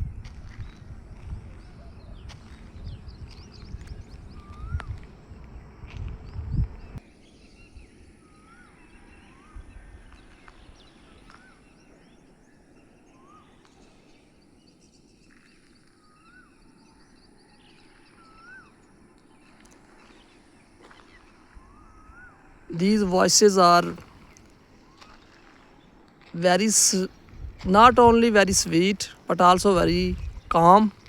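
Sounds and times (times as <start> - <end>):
outdoor background noise: 0.0 - 31.0
small birds chirping: 0.0 - 31.0.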